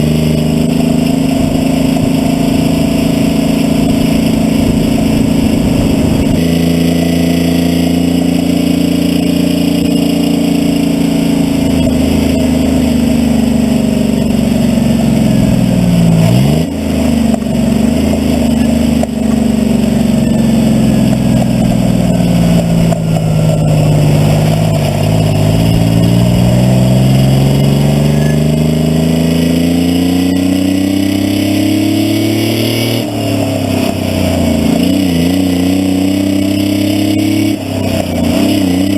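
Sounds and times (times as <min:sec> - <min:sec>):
truck diesel engine under load: 0:00.0 - 0:38.9.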